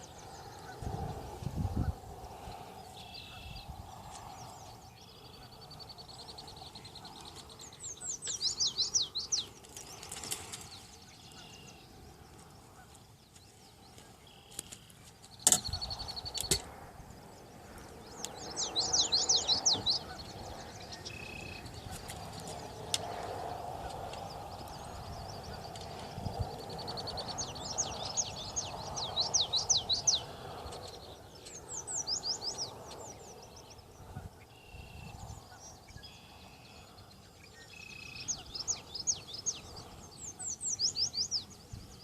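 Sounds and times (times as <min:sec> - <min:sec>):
songbirds singing: 0:00.0 - 0:42.0.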